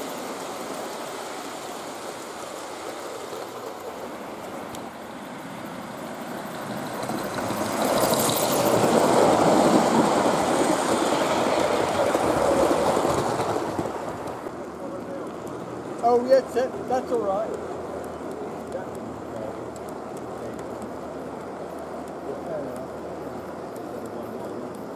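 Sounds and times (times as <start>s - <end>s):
model train wheels rumbling: 0.0s - 24.9s.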